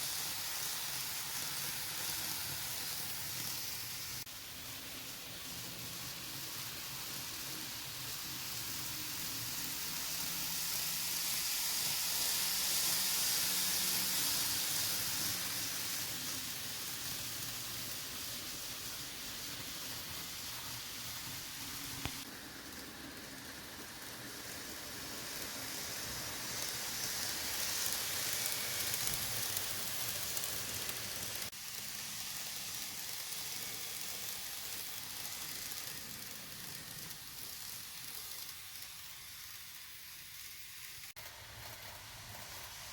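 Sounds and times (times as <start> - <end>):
model train wheels hissing on rail: 0.0 - 42.9.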